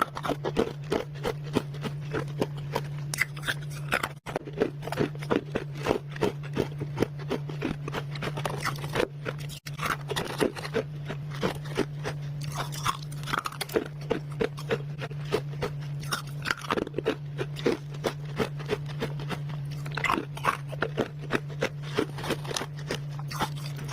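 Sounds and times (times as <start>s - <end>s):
person chewing crunchy ice: 0.0s - 23.9s.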